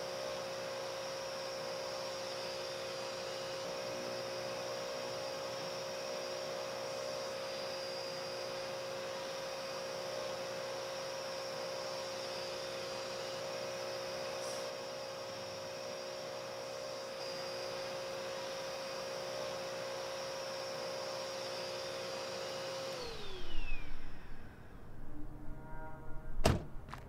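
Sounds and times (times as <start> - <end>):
vacuum motor whining: 0.0 - 25.4.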